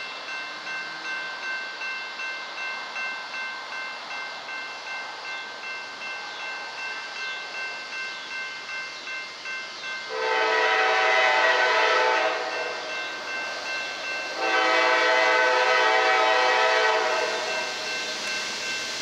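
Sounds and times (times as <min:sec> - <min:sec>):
crossing warning bell ringing: 0:00.0 - 0:19.0
diesel freight train approaching: 0:00.0 - 0:19.0.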